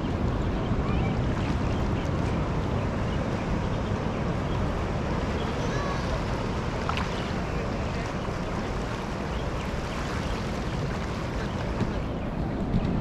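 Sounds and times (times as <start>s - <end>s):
sea waves rushing: 0.0s - 13.0s
wind buffeting microphone: 0.0s - 13.0s.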